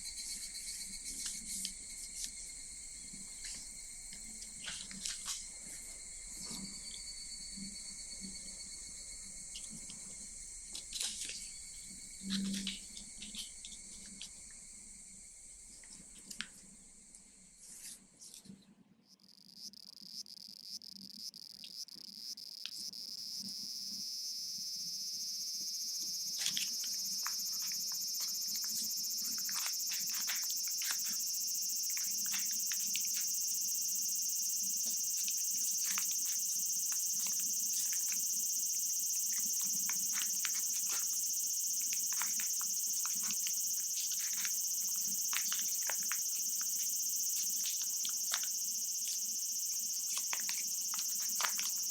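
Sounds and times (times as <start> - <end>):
cicadas buzzing: 0.0 - 17.1, 19.2 - 51.9.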